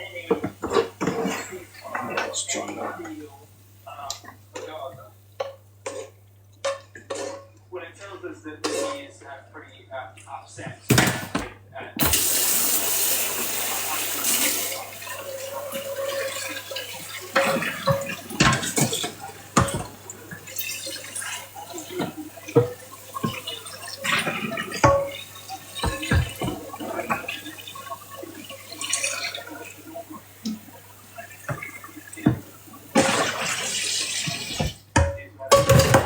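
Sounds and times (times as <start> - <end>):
dishes and utensils clinking: 0.0 - 3.3, 4.1 - 9.2, 14.2 - 36.0
tap water running into sink: 0.0 - 7.2, 10.9 - 36.0.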